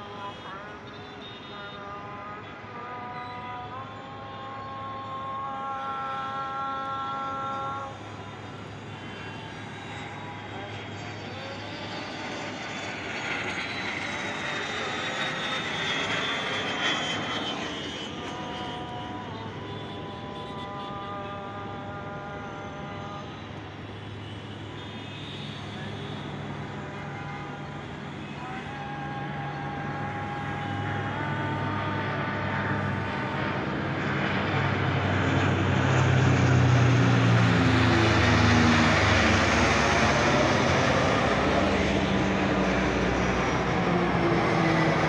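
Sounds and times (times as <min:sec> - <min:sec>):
turboprop aircraft flying over: 0:00.0 - 0:45.0.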